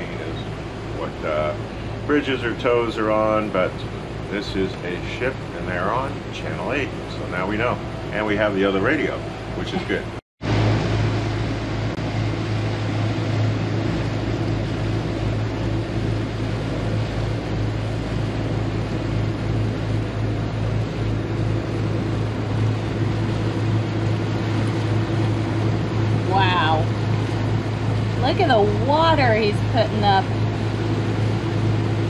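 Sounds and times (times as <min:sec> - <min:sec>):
boat engines droning: 0:00.0 - 0:32.0
water rushing past hull: 0:00.0 - 0:32.0.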